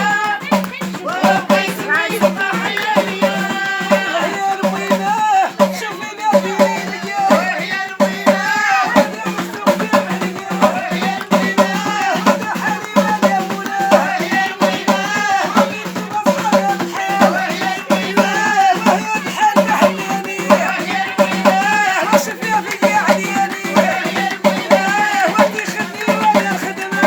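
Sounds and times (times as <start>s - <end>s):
hand percussion: 0.0s - 27.0s
shaker rattles: 0.0s - 27.0s.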